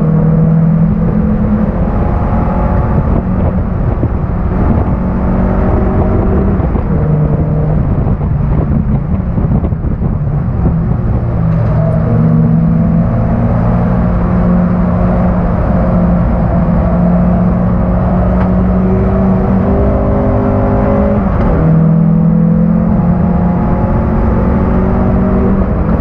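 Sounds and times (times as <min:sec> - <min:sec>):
car engine revving from inside cabin: 0:00.0 - 0:26.0.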